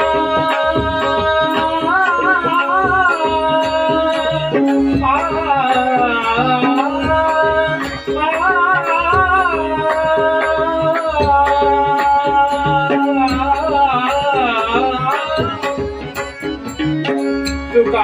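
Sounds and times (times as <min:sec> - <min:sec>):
hand drum rhythm: 0:00.0 - 0:18.0.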